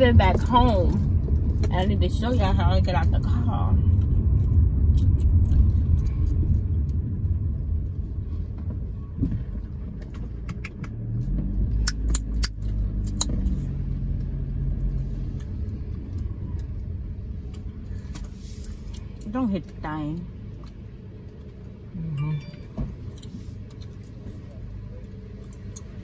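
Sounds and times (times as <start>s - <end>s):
low rumble inside car: 0.0s - 26.0s.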